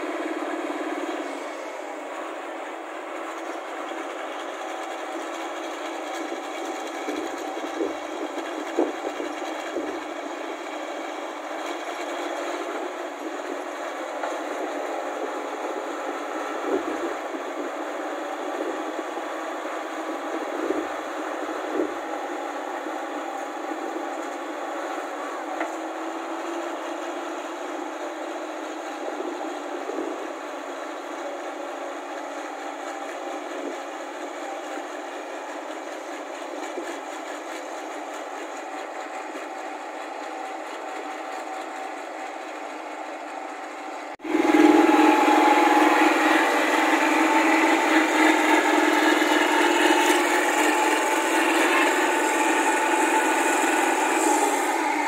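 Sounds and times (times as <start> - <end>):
combine harvester engine humming: 0.0 - 55.0.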